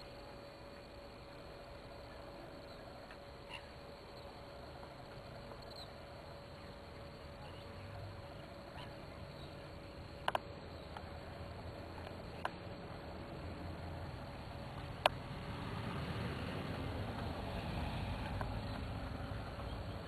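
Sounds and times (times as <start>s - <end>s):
steady hiss and hum: 0.0s - 20.0s.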